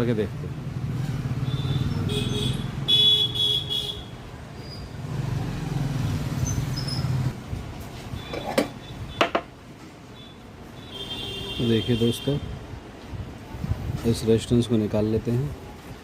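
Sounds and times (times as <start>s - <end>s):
traffic running: 0.0s - 16.0s.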